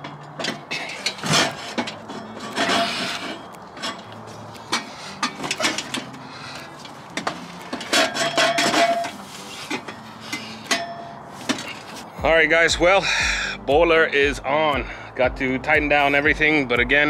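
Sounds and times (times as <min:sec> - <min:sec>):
metal exhaust pipes knocking: 0:00.0 - 0:17.0.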